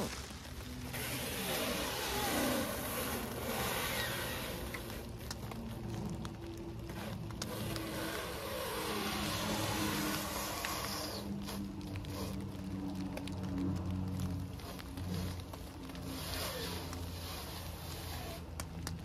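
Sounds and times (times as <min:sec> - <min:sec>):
stretch wrap squealing and crackling: 0:00.0 - 0:19.0.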